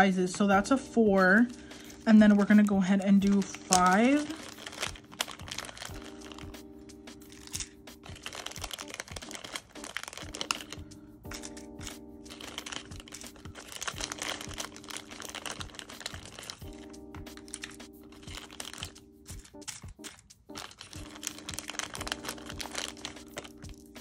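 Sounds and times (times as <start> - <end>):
soft background music: 0.0 - 24.0
plastic nail tips crinkling: 1.5 - 24.0.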